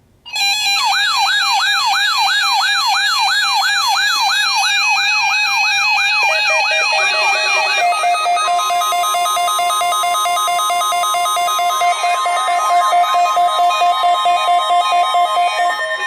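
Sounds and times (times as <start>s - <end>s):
siren-like sweeping alert tone: 0.3s - 16.0s.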